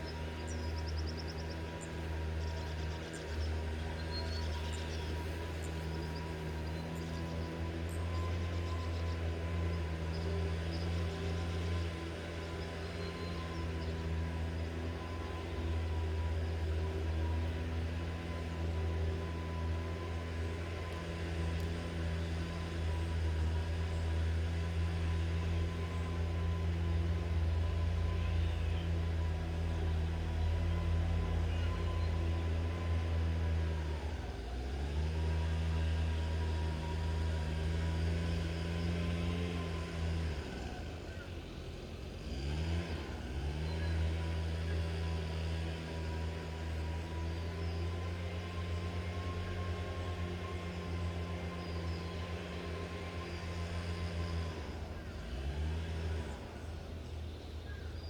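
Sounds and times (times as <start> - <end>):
large engine running: 0.0 - 58.0.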